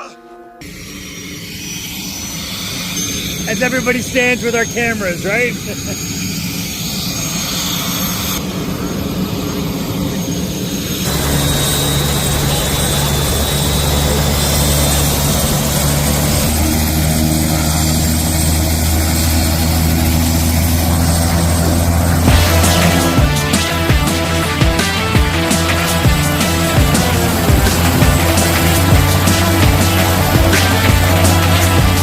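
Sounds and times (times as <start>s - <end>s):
helicopter drone: 0.0s - 32.0s.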